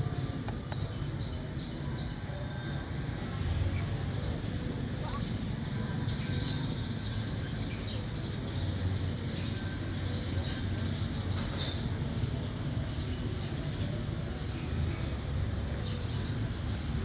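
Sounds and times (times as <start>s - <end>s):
insects droning high whine: 0.0s - 17.0s.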